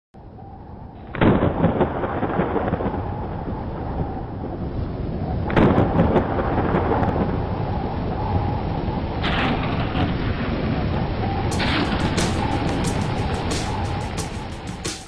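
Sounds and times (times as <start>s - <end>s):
thunder claps: 0.8s - 15.0s
rain falling: 0.9s - 15.0s.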